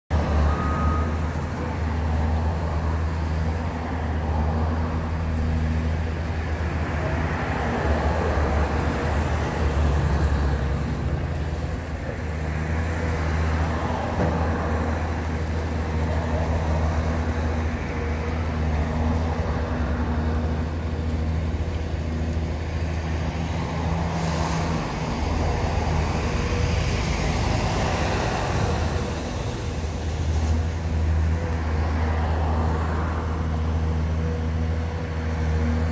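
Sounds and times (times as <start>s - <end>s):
diesel engine droning: 0.1s - 35.9s
tyres on wet street: 0.1s - 35.9s.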